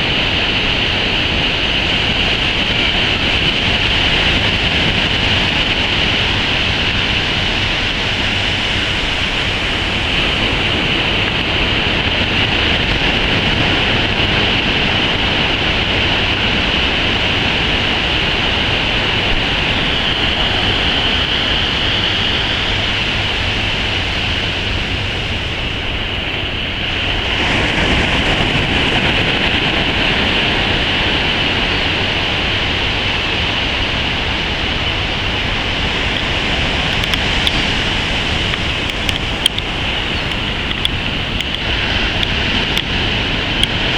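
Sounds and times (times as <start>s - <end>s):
ocean surf rushing: 0.0s - 43.9s
wind buffeting microphone: 0.0s - 43.9s.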